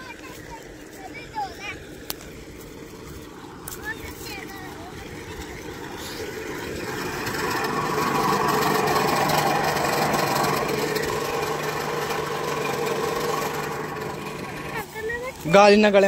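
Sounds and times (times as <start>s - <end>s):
water rushing: 0.0s - 14.9s
engine-driven water pump running: 1.9s - 16.0s.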